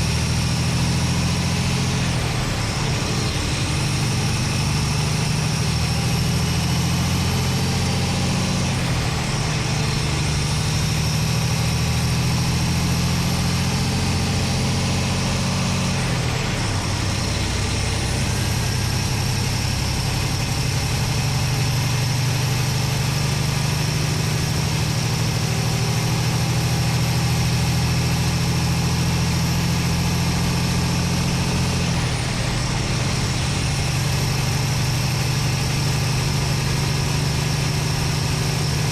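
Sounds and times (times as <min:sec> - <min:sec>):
diesel engine low drone: 0:00.0 - 0:38.9.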